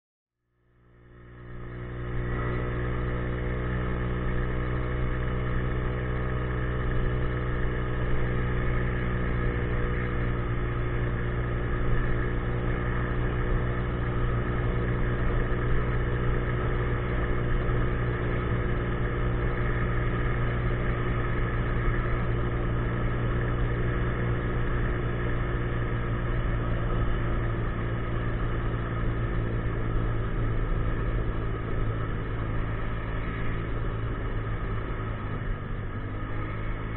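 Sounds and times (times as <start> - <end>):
scooter engine idling: 1.1 - 36.9.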